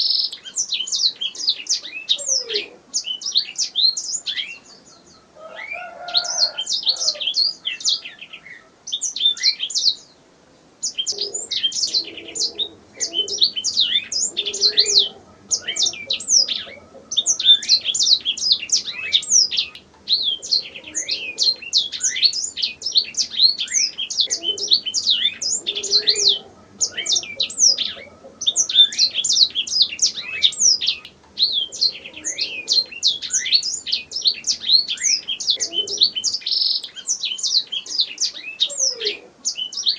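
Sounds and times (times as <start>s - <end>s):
canary singing: 0.0s - 10.2s, 10.8s - 39.9s.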